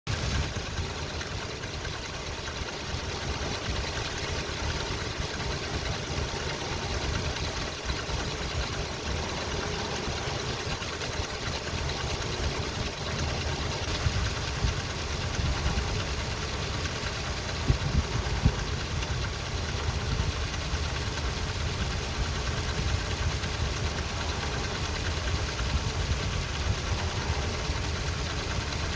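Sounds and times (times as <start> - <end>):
engine idling: 0.1 - 28.9
engine knocks: 0.1 - 28.9.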